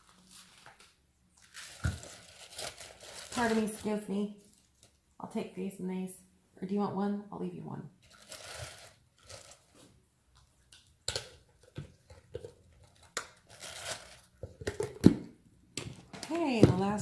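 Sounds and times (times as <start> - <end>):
vegetables rustling and crunching: 0.0 - 5.1, 8.0 - 17.0.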